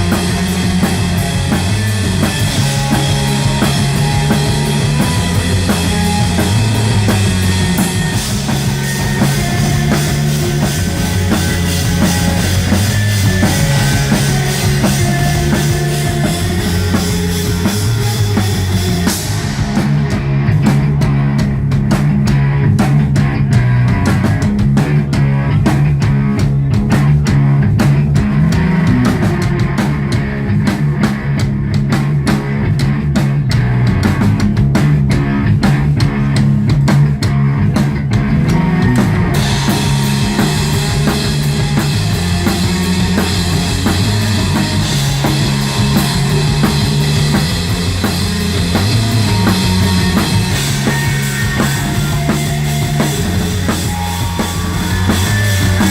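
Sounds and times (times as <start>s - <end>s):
drum kit strokes: 0.0s - 55.9s
guitar and bass riff: 0.0s - 55.9s
rock band playing live: 0.0s - 55.9s.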